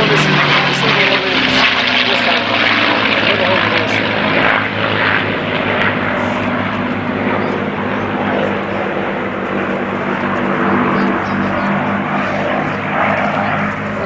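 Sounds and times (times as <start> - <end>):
propeller airplane droning overhead: 0.0 - 14.0.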